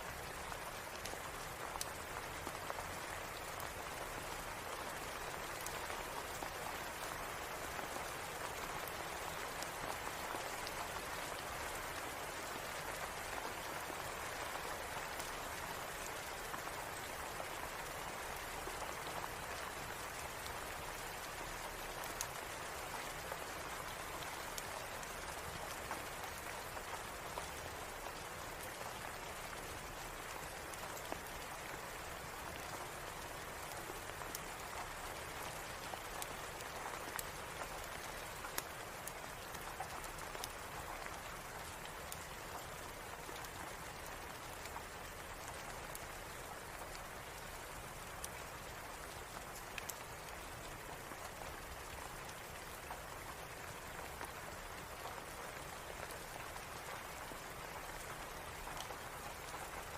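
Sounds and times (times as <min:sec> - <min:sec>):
rain falling: 0:00.0 - 0:59.9
raindrop ticks: 0:00.1 - 0:59.9.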